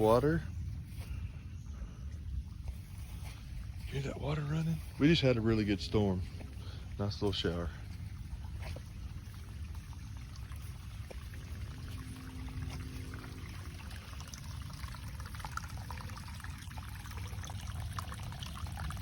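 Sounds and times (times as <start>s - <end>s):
water running and trickling: 0.0s - 1.1s, 2.0s - 19.0s
water splashes and drips: 0.0s - 1.2s, 2.0s - 19.0s.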